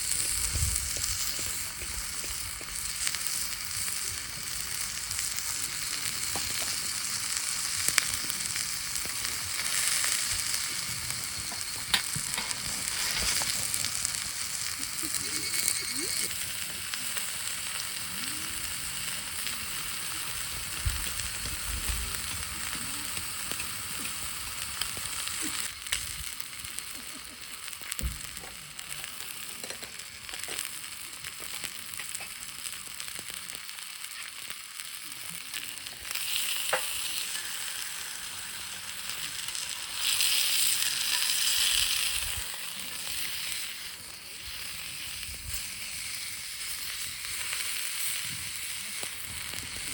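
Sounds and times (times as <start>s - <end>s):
steak sizzling in a skillet: 0.0s - 49.9s.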